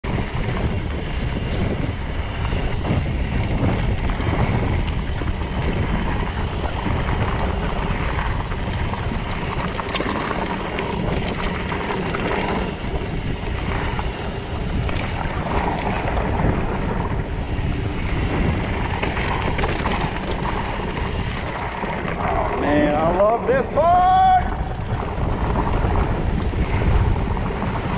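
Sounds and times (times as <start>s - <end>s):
bike clicks and rattles: 0.0s - 27.9s
tyre noise on dirt: 0.0s - 27.9s
wind rushing over microphone: 0.0s - 27.9s.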